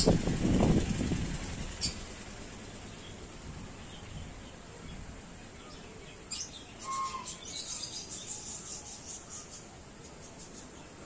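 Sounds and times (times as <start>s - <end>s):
small birds chirping: 1.4s - 11.0s.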